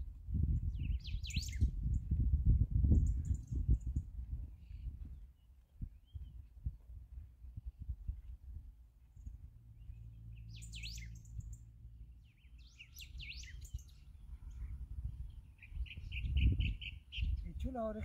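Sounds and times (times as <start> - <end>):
songbirds chirping: 0.0 - 2.2, 2.9 - 18.0
low rumble: 0.0 - 17.5.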